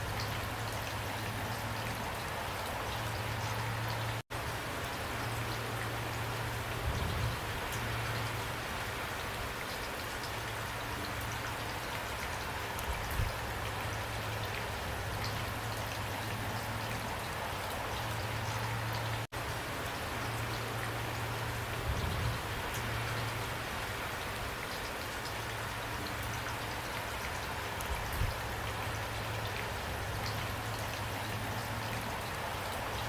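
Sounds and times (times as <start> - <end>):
rain falling: 0.0 - 33.0
raindrops ticking on a surface: 0.0 - 33.0.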